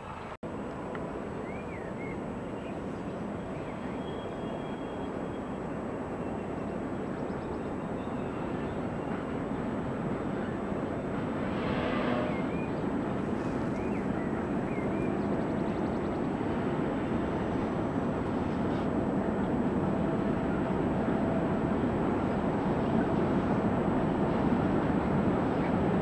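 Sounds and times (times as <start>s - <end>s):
distant rumble of trains: 0.0s - 26.0s.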